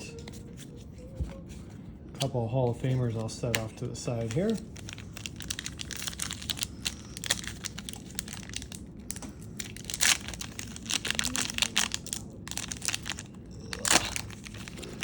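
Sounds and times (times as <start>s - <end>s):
trading cards rustling and clicking: 0.1s - 15.0s.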